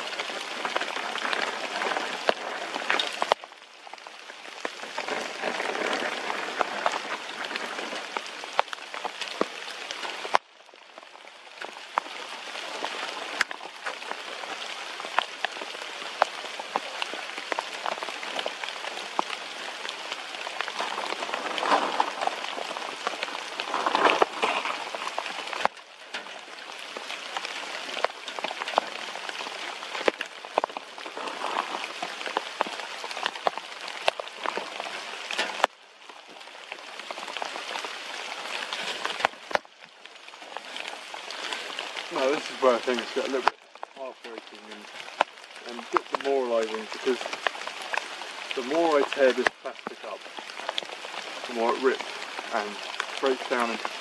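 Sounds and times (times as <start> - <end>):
raindrops ticking close by: 0.0 - 54.0
steady rain falling: 0.0 - 54.0.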